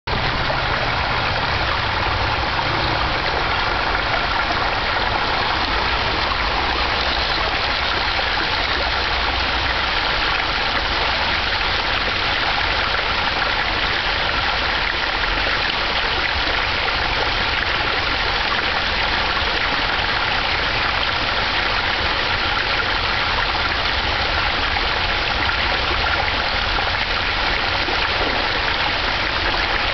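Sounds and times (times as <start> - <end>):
creek water running over rock: 0.1 - 29.9.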